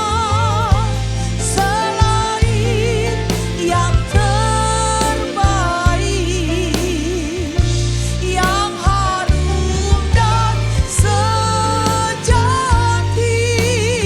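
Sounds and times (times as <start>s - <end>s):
person singing with vibrato: 0.0s - 14.0s
sustained bass notes: 0.0s - 14.0s.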